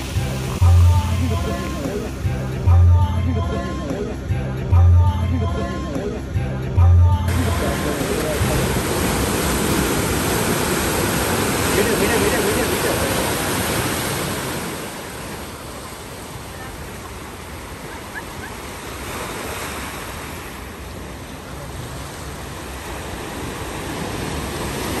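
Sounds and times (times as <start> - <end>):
surf washing over rocks: 0.0 - 2.9, 7.3 - 25.0.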